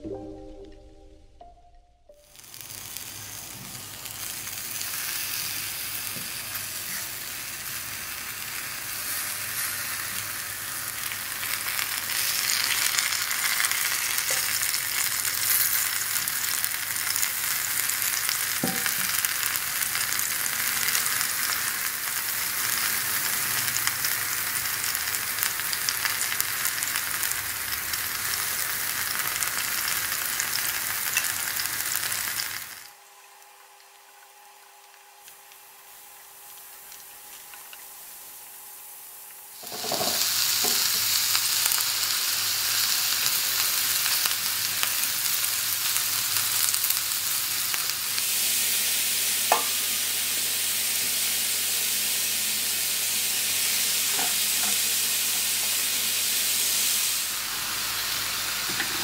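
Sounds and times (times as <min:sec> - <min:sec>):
peppers sizzling on grill pan: 0:02.2 - 0:59.0.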